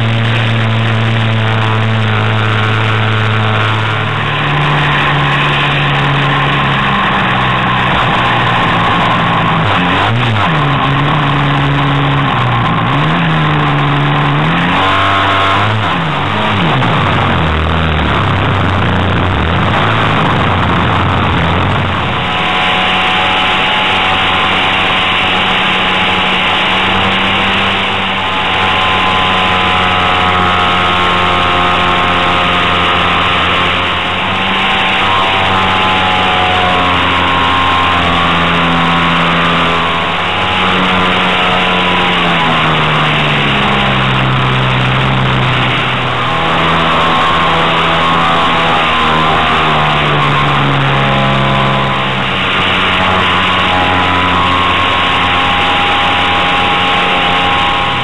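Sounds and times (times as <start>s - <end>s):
propeller aircraft engine revving: 0.0s - 58.0s.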